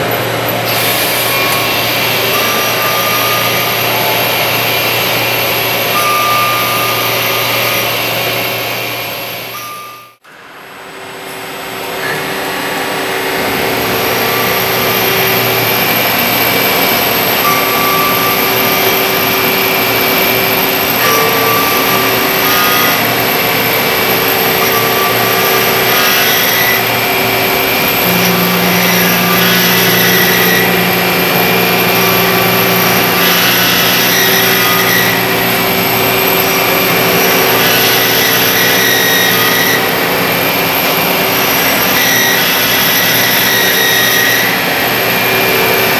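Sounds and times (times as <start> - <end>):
lathe cutting metal whine: 0.0 - 45.9.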